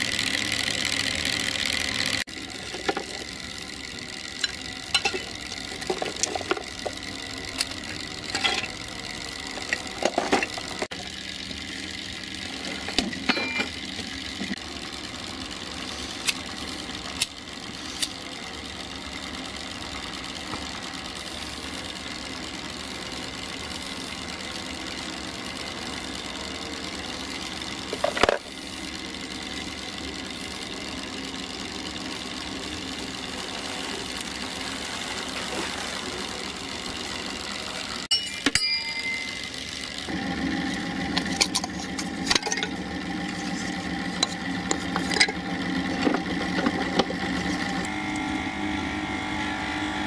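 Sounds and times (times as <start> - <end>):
steady mechanical running noise: 0.0 - 50.0.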